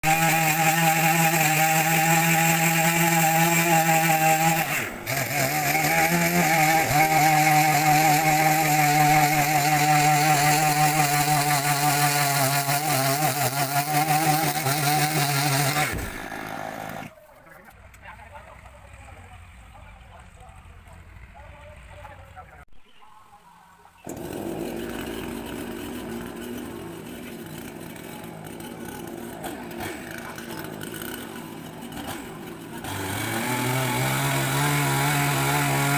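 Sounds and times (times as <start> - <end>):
chainsaw engine running: 0.0 - 17.1, 24.1 - 35.9.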